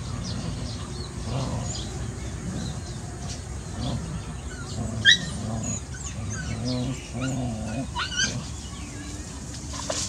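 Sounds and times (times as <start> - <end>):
puppies playing in hay: 0.0 - 10.0
small birds chirping: 0.0 - 10.0.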